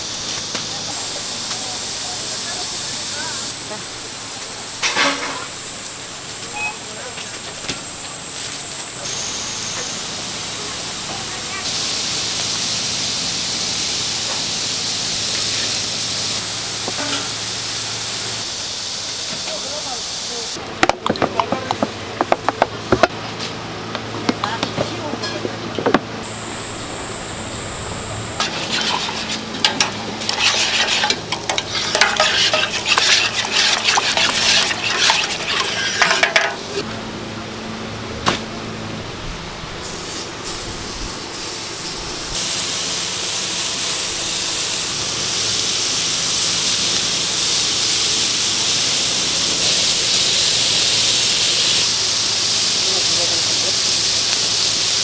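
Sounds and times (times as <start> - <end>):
meat sizzling on a griddle: 0.0 - 20.6, 28.4 - 36.8, 39.8 - 55.0.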